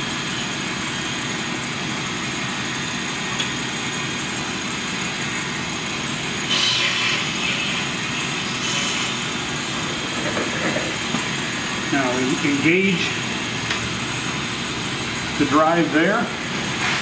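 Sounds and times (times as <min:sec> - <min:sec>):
brake lathe machine hum: 0:00.0 - 0:17.0.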